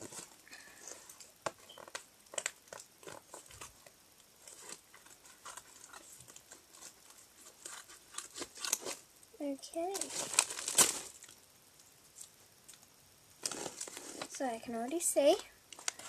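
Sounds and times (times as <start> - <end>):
packaging rustling and crinkling: 0.0 - 9.1, 9.8 - 11.4, 13.4 - 16.0.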